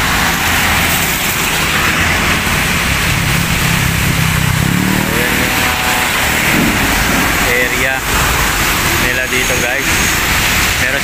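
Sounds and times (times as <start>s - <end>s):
low engine hum: 0.0s - 9.0s
road traffic passing: 0.0s - 11.0s.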